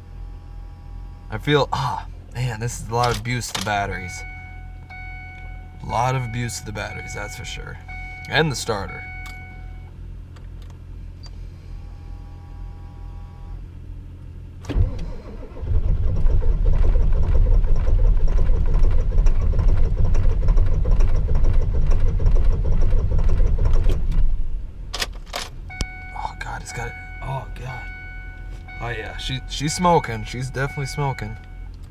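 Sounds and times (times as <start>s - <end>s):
diesel engine cranking: 1.2s - 9.6s, 14.5s - 31.9s.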